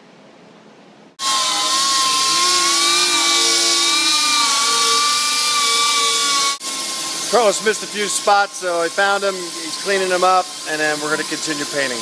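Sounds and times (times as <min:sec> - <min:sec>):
pneumatic tool whining and hissing: 0:01.2 - 0:12.0.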